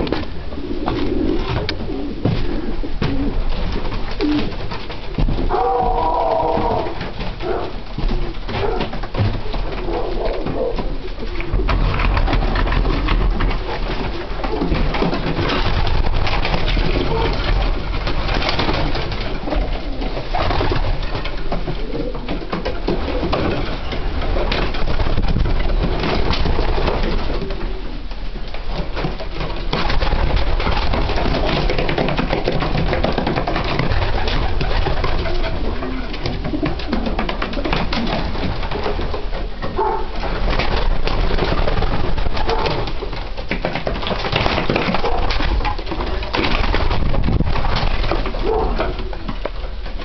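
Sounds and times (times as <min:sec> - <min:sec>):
pigeons cooing: 0:00.0 - 0:50.0
steady rustle: 0:00.0 - 0:50.0.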